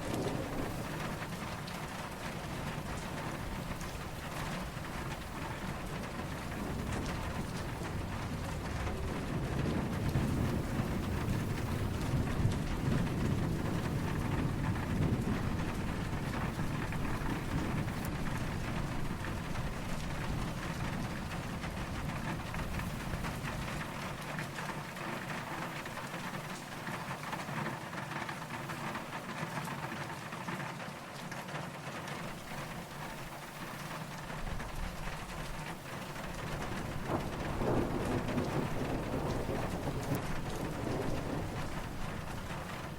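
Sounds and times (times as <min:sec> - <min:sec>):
distant thunder rumbling: 0:00.0 - 0:27.7, 0:32.2 - 0:42.9
steady rain falling: 0:00.0 - 0:42.9.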